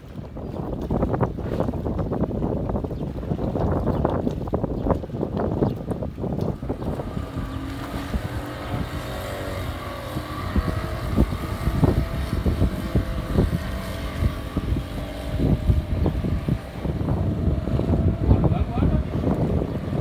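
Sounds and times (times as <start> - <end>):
outboard motor drone: 0.0 - 20.0
wind buffeting microphone: 0.0 - 20.0.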